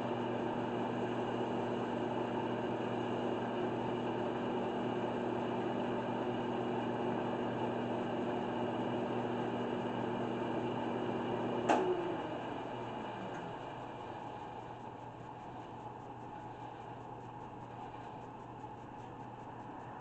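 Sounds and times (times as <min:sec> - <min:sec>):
lathe motor humming: 0:00.0 - 0:20.0.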